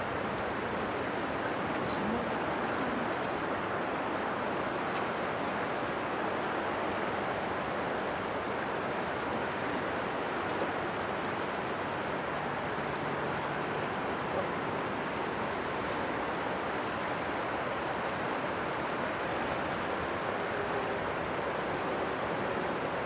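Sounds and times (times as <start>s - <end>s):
faint ship diesel engine drone: 0.0s - 23.0s
rushing river water: 0.0s - 23.0s
wind: 0.0s - 23.0s.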